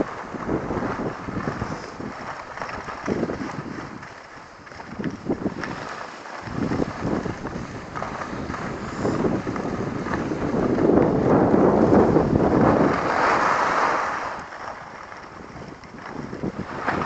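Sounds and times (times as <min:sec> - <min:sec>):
skis sliding on snow: 0:00.0 - 0:17.0
wind on microphone: 0:00.0 - 0:17.0.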